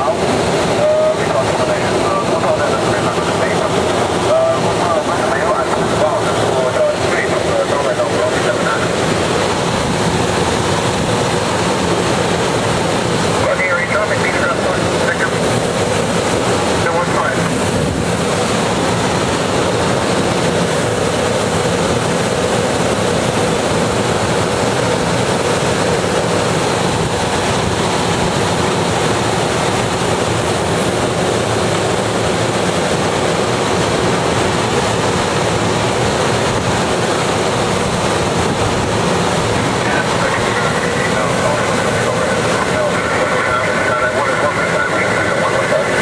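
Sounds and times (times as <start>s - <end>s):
plane engine droning: 0.0s - 46.0s
air rushing over canopy: 1.7s - 43.7s.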